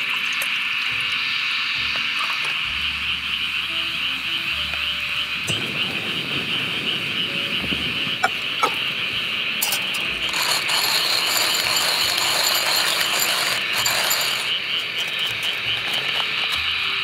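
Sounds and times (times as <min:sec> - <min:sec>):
buzzing insect call: 0:00.0 - 0:17.0
grass insects trilling: 0:00.0 - 0:17.0.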